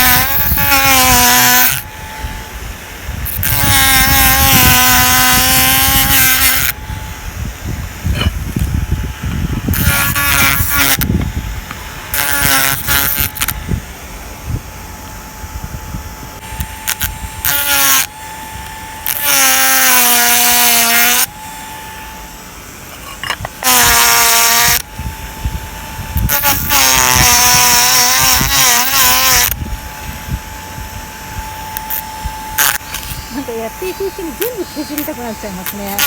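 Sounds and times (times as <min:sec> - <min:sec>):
power carving tool whining: 0:00.0 - 0:36.0.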